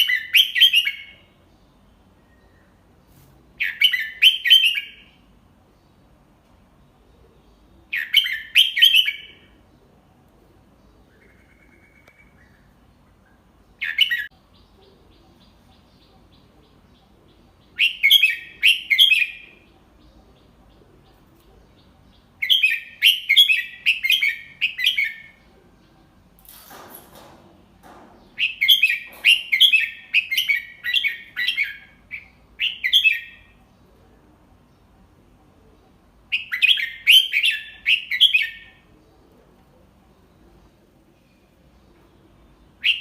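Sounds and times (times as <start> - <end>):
bird singing warbled phrases: 0.0 - 3.0, 3.6 - 26.4, 27.8 - 43.0.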